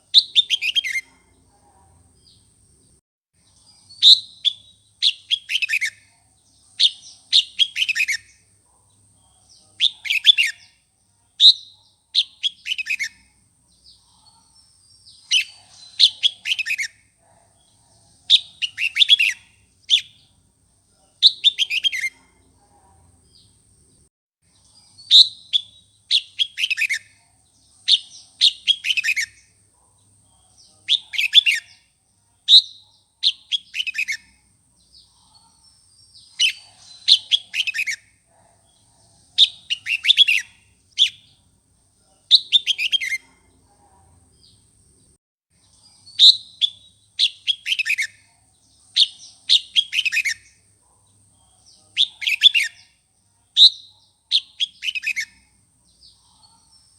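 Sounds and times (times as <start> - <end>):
bulbul singing: 0.0 - 1.5, 3.4 - 20.4, 21.0 - 22.4, 24.5 - 41.5, 42.2 - 43.5, 45.6 - 53.0, 53.6 - 56.9.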